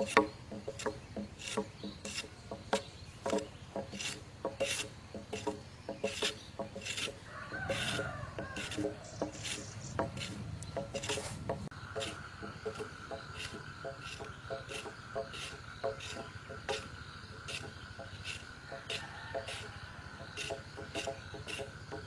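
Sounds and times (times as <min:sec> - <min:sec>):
hand tool rasping wood: 0:00.0 - 0:22.0.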